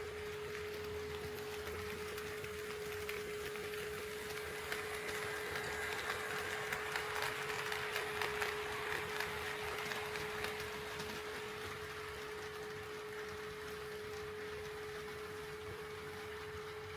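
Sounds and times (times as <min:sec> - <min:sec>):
wheels clicking over rail joints: 0:00.0 - 0:16.6
model train motor whir: 0:00.0 - 0:16.9
steady humming tone: 0:00.0 - 0:16.9.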